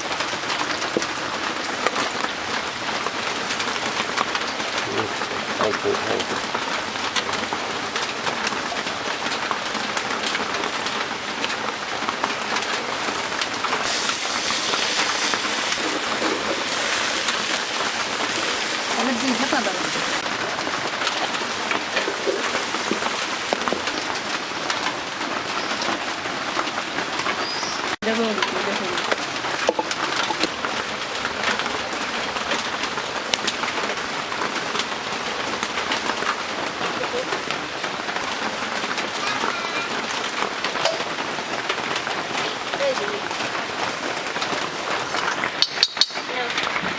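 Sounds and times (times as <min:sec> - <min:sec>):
heavy rain on a roof: 0:00.0 - 0:46.9.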